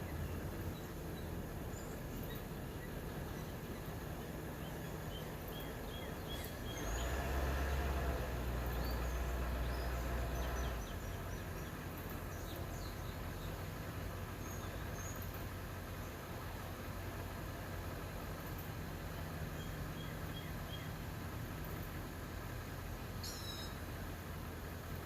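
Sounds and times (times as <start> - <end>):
low background hum: 0.0 - 25.0
small songbirds chirping: 0.0 - 25.0.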